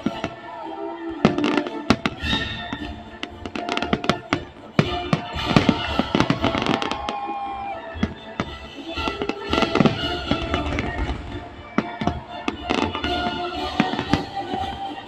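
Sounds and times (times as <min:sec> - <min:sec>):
fireworks bangs and crackles: 0:00.0 - 0:00.6, 0:01.2 - 0:15.0
music playing: 0:00.0 - 0:15.0.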